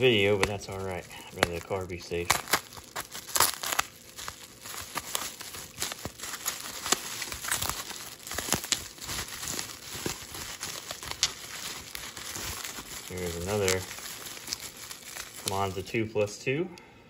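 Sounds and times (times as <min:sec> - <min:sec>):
bubble wrap crinkling: 0:00.0 - 0:16.1.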